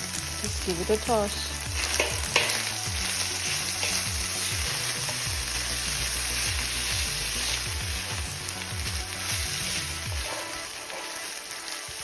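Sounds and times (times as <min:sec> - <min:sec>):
background music with sliding bass: 0:00.0 - 0:12.0
chicken sizzling in a pan: 0:00.0 - 0:12.0.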